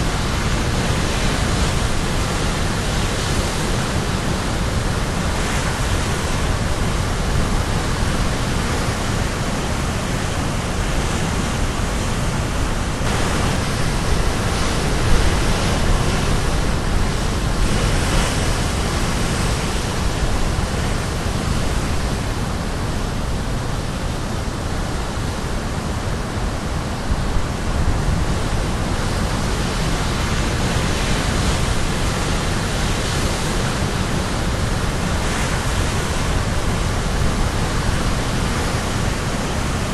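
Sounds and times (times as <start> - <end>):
waves crashing on shore: 0.0 - 39.9.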